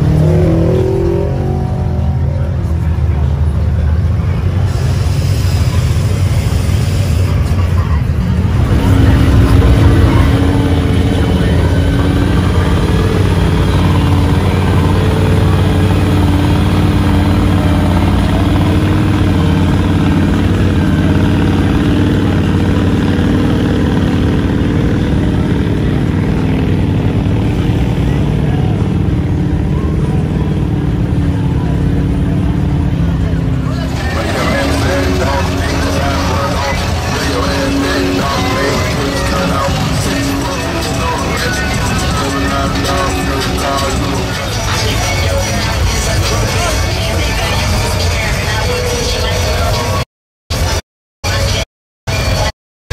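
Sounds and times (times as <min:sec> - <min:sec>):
swamp buggy engine rumbling: 0:00.0 - 0:52.5.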